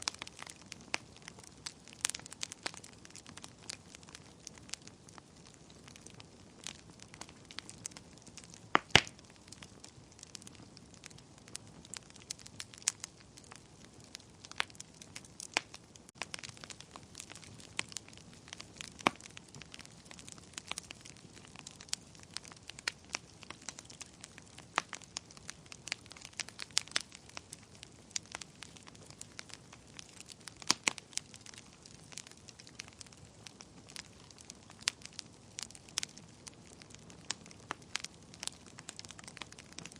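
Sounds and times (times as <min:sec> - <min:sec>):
faint fire hiss: 0:00.0 - 0:39.9
fire crackling and popping: 0:00.0 - 0:39.9.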